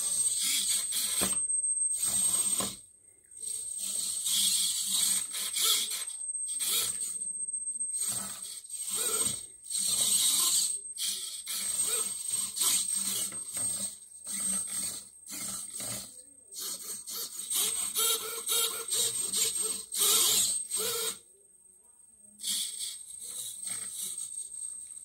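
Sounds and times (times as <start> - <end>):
servo motors whirring: 0.0 - 2.8, 3.4 - 21.2, 22.4 - 25.0
thin high whine: 0.0 - 25.0.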